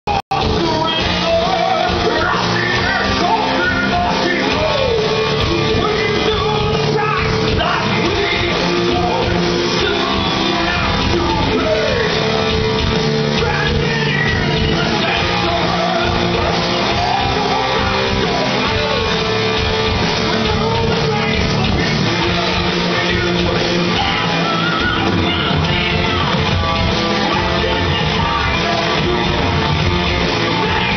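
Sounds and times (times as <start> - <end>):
heavy metal band playing live: 0.1 - 30.9
person singing: 0.1 - 30.9.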